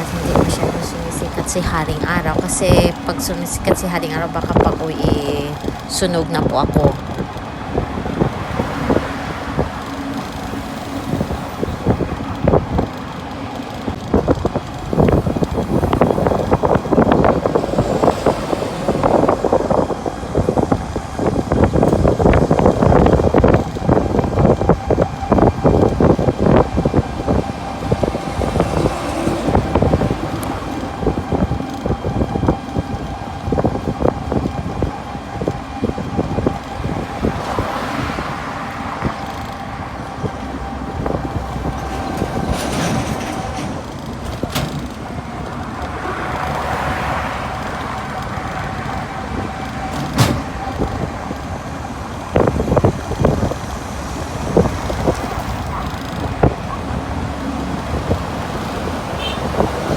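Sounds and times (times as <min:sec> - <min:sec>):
steady whine: 0:00.0 - 0:58.6
passing road traffic: 0:00.0 - 0:59.9
wind buffeting microphone: 0:00.0 - 0:59.9.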